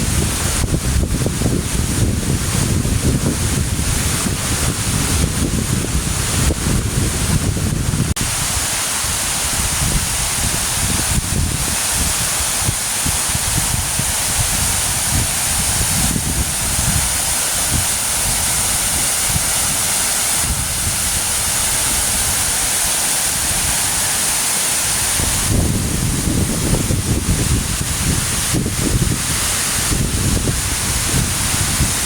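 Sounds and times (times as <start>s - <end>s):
wind buffeting microphone: 0.0s - 24.2s, 24.9s - 32.0s
waterfall rushing: 0.0s - 32.0s.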